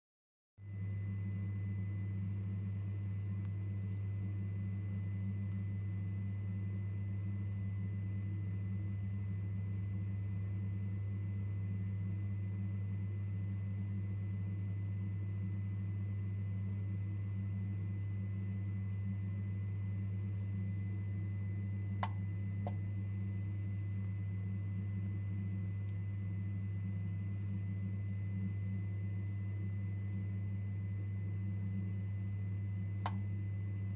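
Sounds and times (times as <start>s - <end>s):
electrical hum with high whine: 0.6s - 33.9s.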